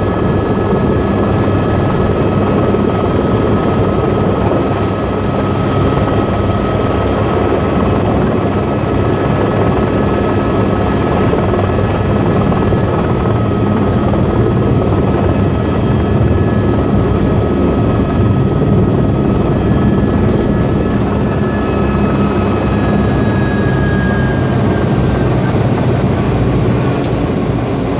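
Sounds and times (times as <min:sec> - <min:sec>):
helicopter rotor and engine: 0:00.0 - 0:27.9
turbine whine: 0:00.0 - 0:27.9.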